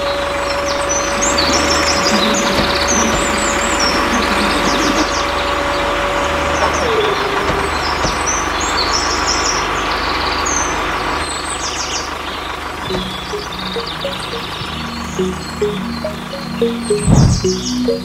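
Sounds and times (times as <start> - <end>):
birds chirping: 0.0 - 18.0
engine running with whine: 0.0 - 18.0.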